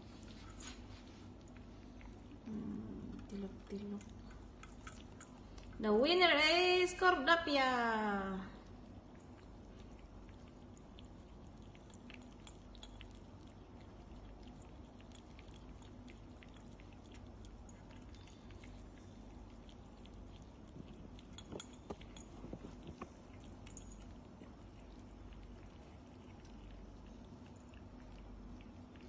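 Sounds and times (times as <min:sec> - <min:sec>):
cats chewing and licking food: 0:00.0 - 0:29.0.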